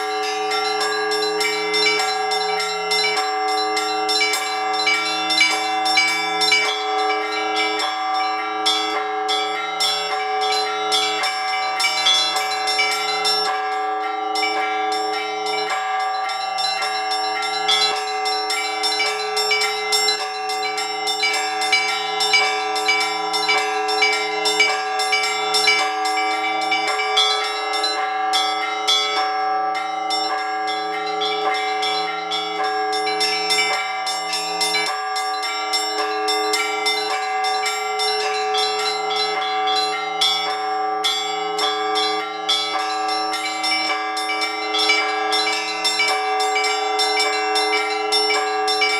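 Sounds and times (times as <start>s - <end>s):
large bells ringing: 0.0s - 48.9s
small bells striking rapidly: 0.0s - 48.9s.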